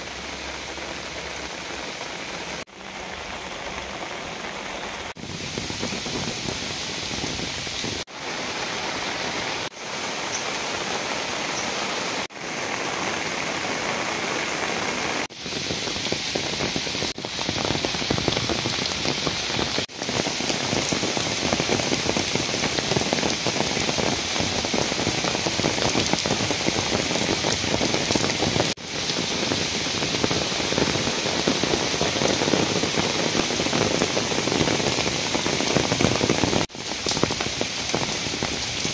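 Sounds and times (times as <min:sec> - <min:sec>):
rain on foliage and paving: 0:00.0 - 0:38.9.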